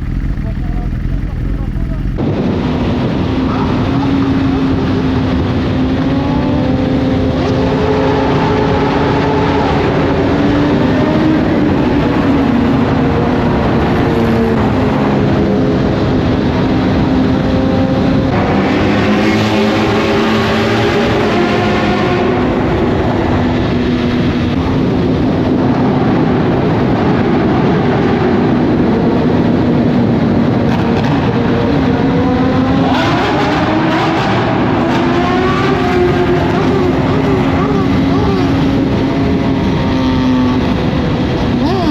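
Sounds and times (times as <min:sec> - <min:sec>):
high-performance engines racing: 0:00.0 - 0:41.9.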